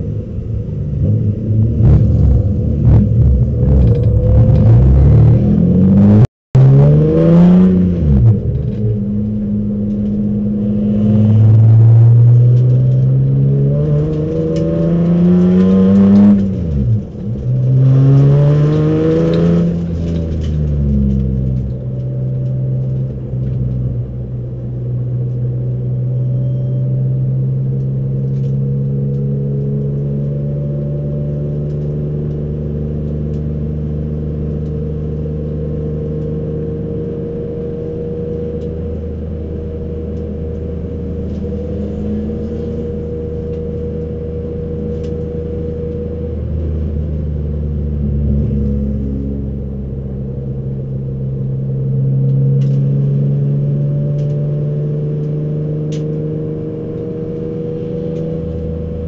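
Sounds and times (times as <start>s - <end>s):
race car engine revving: 0.8s - 23.2s, 27.6s - 59.0s.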